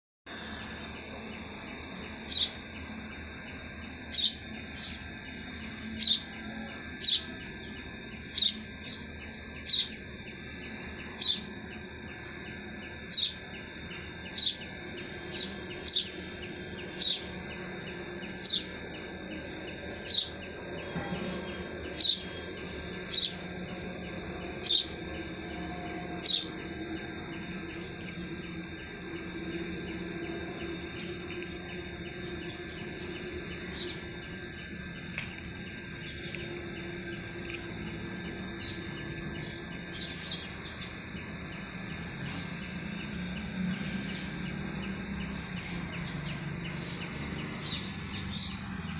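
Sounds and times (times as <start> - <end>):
bird chirping: 0.3 - 48.9
faint outdoor background: 0.3 - 48.9.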